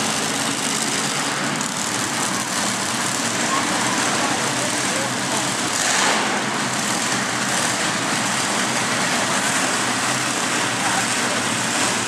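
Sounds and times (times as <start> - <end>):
monster truck engines running: 0.0 - 12.0.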